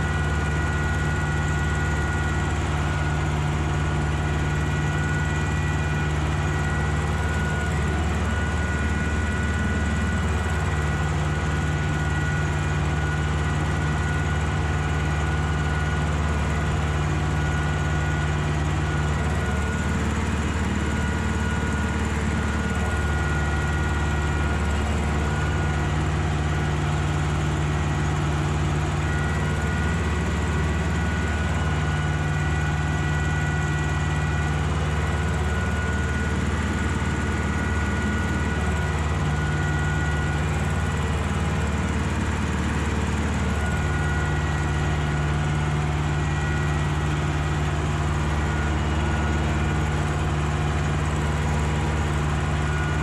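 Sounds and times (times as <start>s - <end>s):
steady high whine: 0.0s - 53.0s
tractor engine running: 0.0s - 53.0s.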